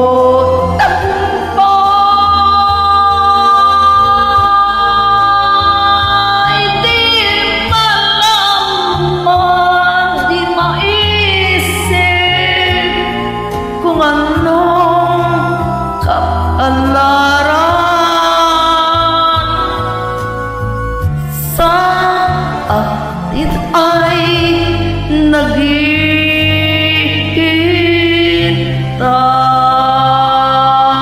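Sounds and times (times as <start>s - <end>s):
karaoke backing track: 0.0s - 31.0s
person singing a slow ballad: 0.0s - 31.0s.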